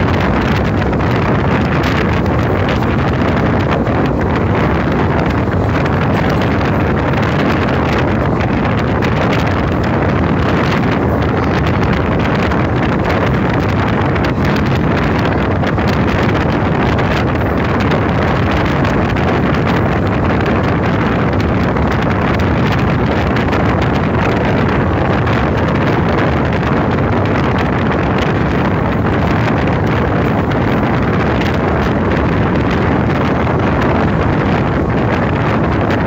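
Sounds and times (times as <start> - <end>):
train rumble: 0.0 - 36.0
wind buffeting microphone: 0.0 - 36.0.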